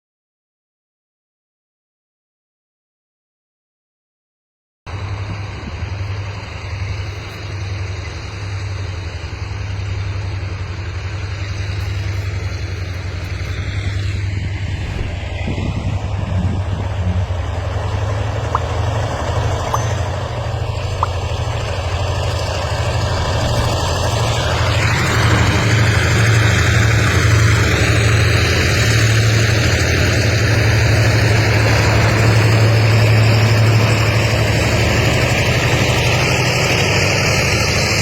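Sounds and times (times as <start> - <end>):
diesel locomotive engines working hard: 4.9 - 38.0.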